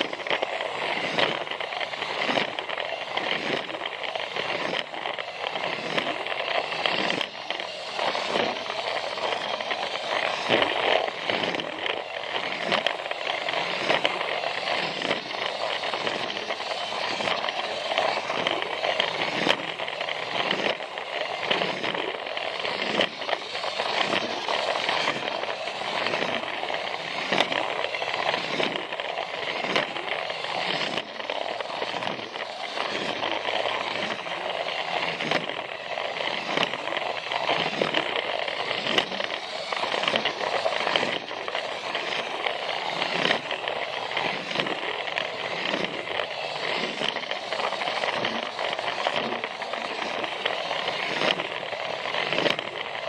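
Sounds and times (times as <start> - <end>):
plastic wheels clicking over track: 0.0 - 53.0
toy train motor whirring: 0.0 - 53.0.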